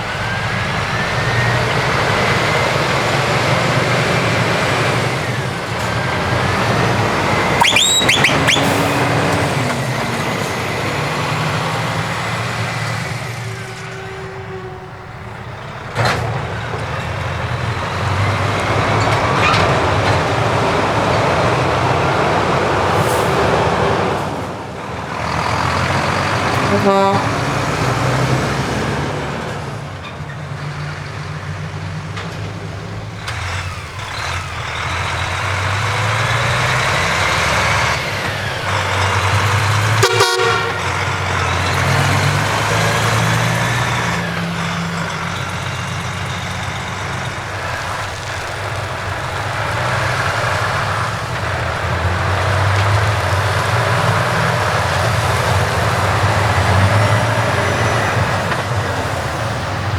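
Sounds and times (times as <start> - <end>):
truck horns tooting: 0.0 - 24.1, 25.2 - 30.5, 32.9 - 59.9
heavy trucks driving past: 0.0 - 59.9.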